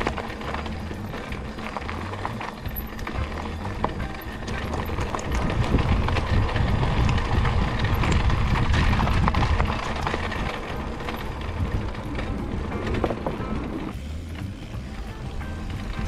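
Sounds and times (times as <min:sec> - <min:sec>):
bike rattling: 0:00.0 - 0:16.0
bike tyres crunching on gravel: 0:00.0 - 0:16.0
dense rumble: 0:00.0 - 0:16.0.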